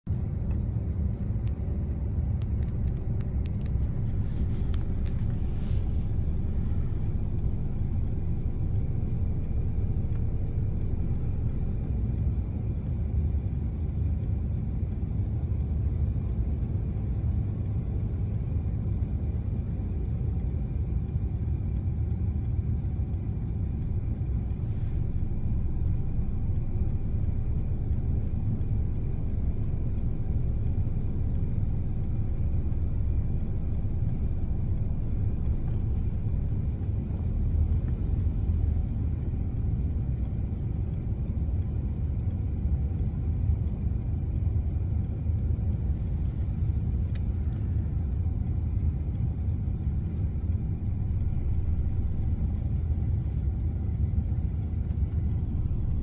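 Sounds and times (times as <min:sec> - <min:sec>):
car interior road rumble: 0:00.0 - 0:56.0
faint ticks: 0:00.1 - 0:56.0.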